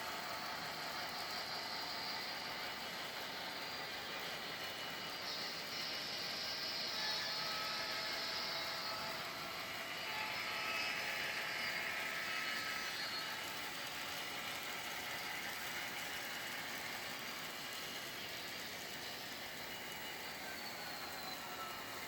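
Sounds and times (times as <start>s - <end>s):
train wheels rolling on rails: 0.0s - 22.0s.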